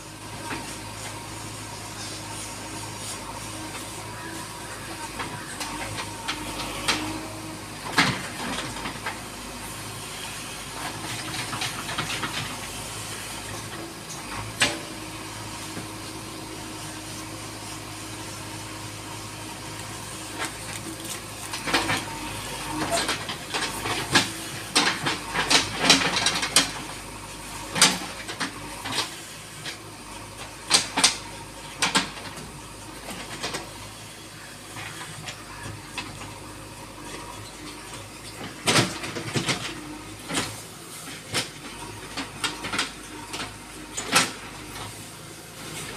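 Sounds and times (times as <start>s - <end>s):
diesel engine running under load: 0.0s - 45.9s.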